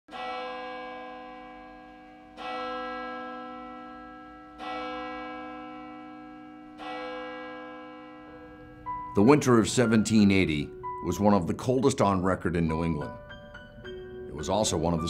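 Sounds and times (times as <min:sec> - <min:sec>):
large bell tolling: 0:00.1 - 0:15.0.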